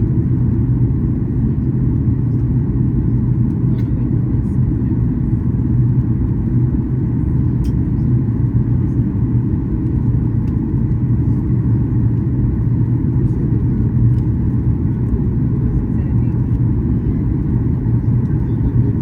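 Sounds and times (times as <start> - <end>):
airplane engines rumbling: 0.0 - 19.0.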